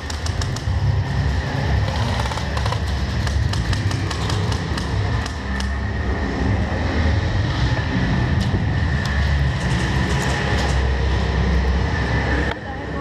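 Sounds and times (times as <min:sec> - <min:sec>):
low indoor rumble: 0:00.0 - 0:13.0.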